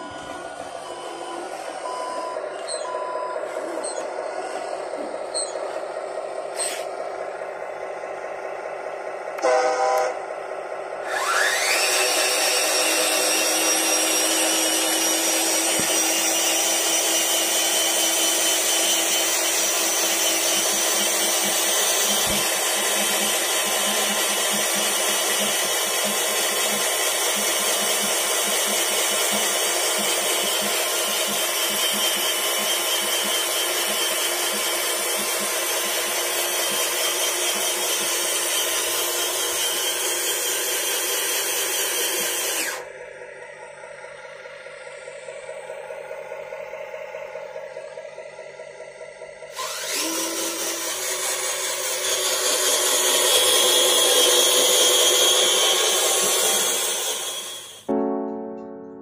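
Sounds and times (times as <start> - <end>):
electric motor whining: 0.0 - 57.9.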